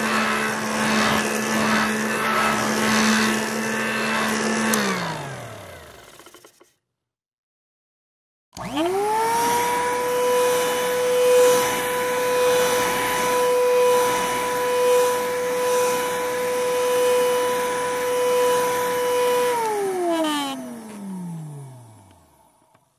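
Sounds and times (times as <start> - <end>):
vacuum cleaner running: 0.0 - 6.6, 8.6 - 22.9.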